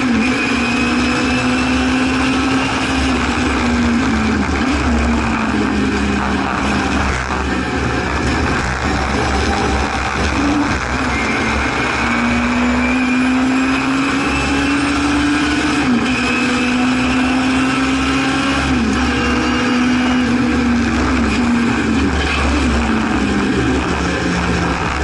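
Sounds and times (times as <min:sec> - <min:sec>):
car engine running hard: 0:00.0 - 0:25.0
road and wind noise: 0:00.0 - 0:25.0.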